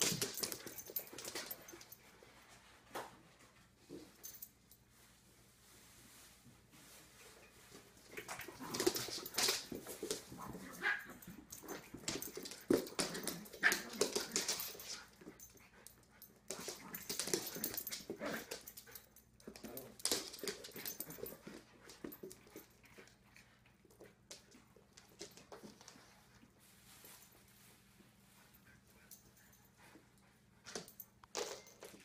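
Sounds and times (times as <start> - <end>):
dogs scuffling: 0.0 - 4.5, 5.7 - 30.0.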